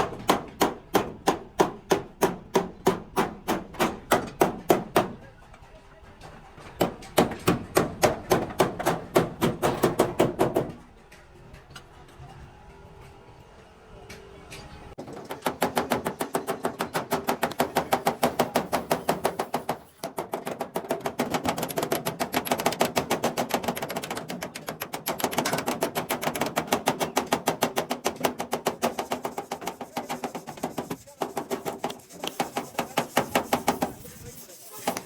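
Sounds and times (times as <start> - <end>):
rapid hammering on sheet metal: 0.0 - 5.3, 6.8 - 10.8, 15.0 - 35.0.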